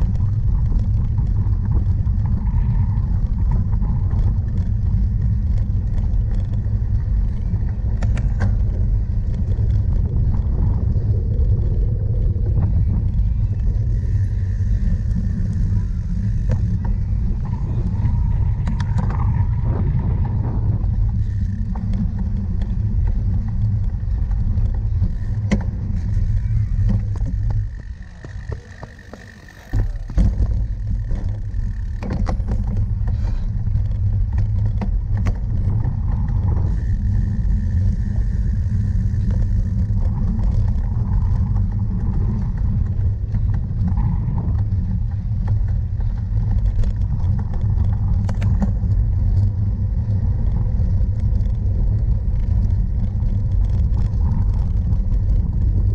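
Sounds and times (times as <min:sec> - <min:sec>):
bike clicks and rattles: 0:00.0 - 0:55.9
wind rumbling on microphone: 0:00.0 - 0:55.9.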